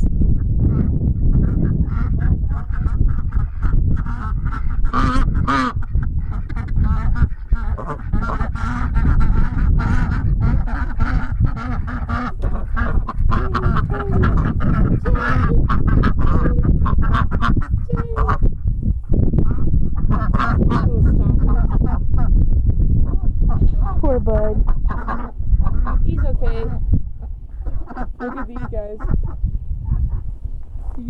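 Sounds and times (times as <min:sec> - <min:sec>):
steady low rumble: 0:00.0 - 0:31.0
ducks quacking: 0:00.4 - 0:22.3, 0:23.1 - 0:31.0
geese honking: 0:01.4 - 0:18.5, 0:19.5 - 0:22.0, 0:24.7 - 0:31.0.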